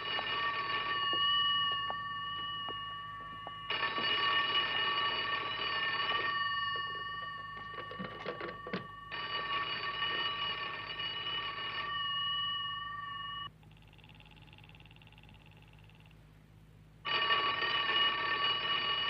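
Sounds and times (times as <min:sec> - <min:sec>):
telephone bell ringing: 0:00.0 - 0:16.1, 0:17.0 - 0:19.0.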